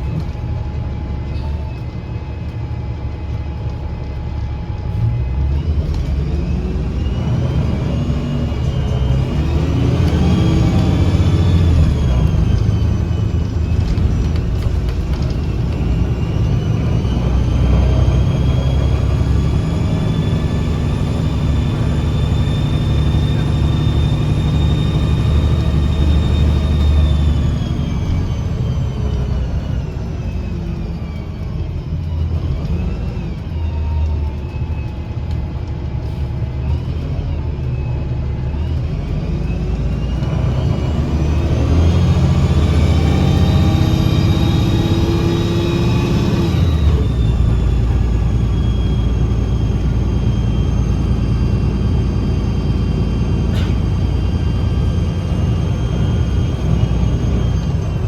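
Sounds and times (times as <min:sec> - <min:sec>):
bus engine drone: 0:00.0 - 0:58.0
high drivetrain whine: 0:00.0 - 0:58.0.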